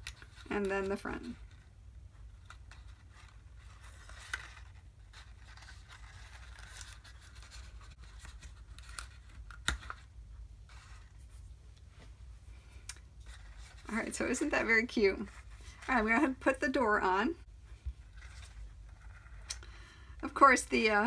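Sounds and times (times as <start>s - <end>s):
card paper rustling and scraping: 0.0s - 11.5s, 12.7s - 16.6s, 17.8s - 19.5s
low steady hum: 0.0s - 21.0s.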